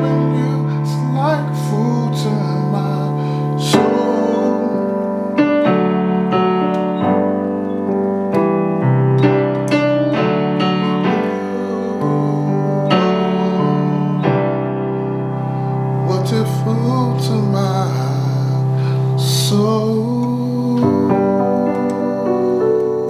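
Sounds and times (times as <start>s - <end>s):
piano chords on keyboard: 0.0s - 23.0s.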